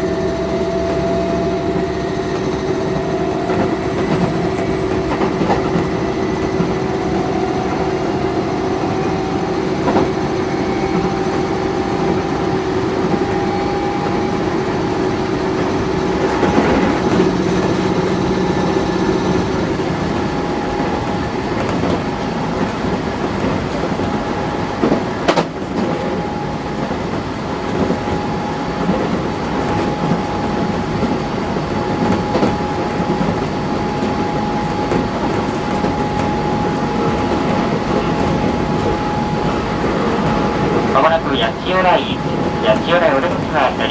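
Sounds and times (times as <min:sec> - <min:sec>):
train motor whine: 0:00.0 - 0:43.9
wheel and rail noise: 0:00.0 - 0:43.9.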